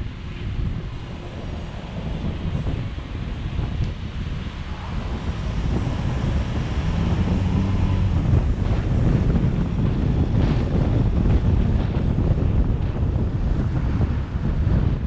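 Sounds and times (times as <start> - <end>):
road and engine rumble: 0.0 - 15.0
wind buffeting microphone: 0.0 - 15.0.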